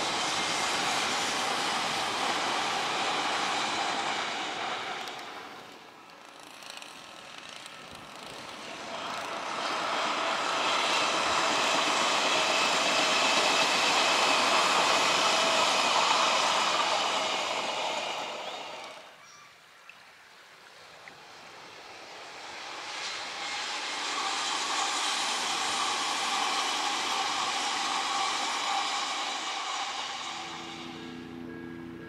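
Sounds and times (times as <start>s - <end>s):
train passing at speed: 0.0s - 19.2s, 20.7s - 32.0s.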